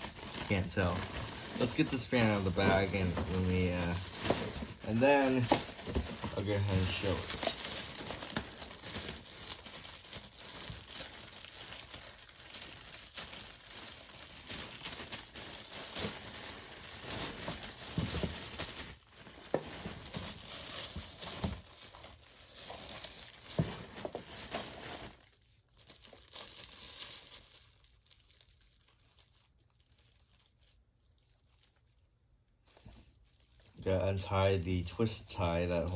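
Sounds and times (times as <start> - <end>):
plastic bag crinkling: 0.0 - 35.9.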